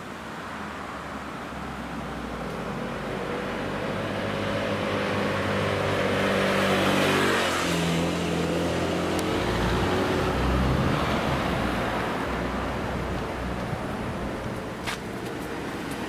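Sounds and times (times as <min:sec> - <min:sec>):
motor scooter passing by: 0:02.6 - 0:16.0.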